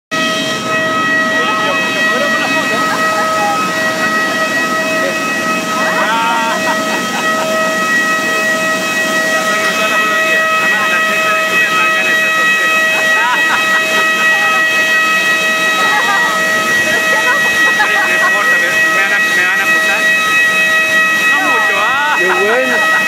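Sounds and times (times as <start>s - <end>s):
jet turbine whine: 0.2s - 23.0s
faint voices: 1.3s - 20.6s, 21.2s - 23.0s.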